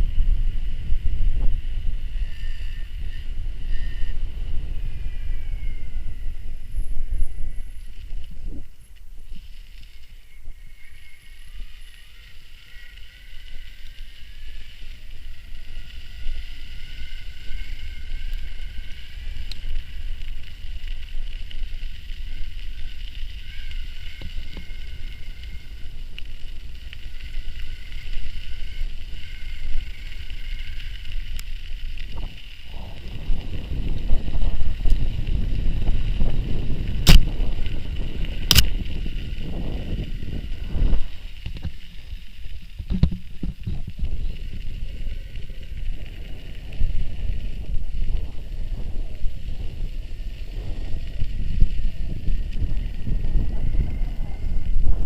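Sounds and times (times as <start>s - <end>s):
high motor whine: 0.0s - 55.0s
wind rumble on microphone: 0.0s - 55.0s.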